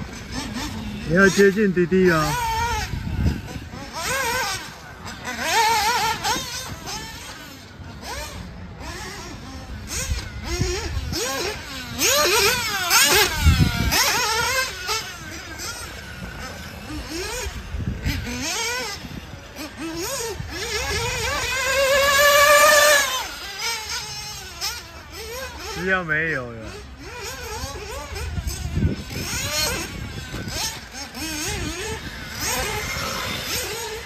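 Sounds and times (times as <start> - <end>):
model buggy engines revving: 0.0 - 34.0.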